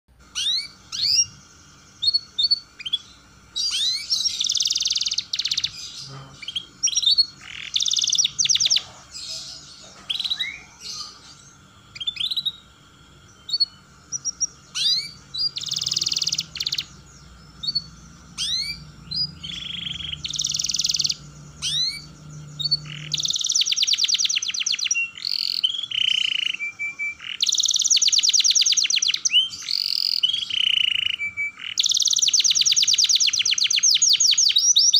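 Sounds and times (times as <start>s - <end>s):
canary singing chirps and trills: 0.1s - 34.9s.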